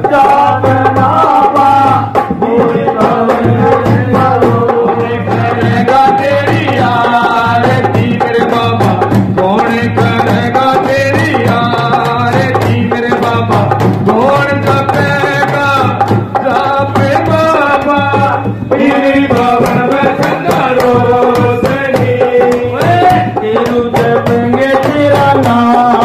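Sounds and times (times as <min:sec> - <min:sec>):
hand drums beating: 0:00.0 - 0:26.0.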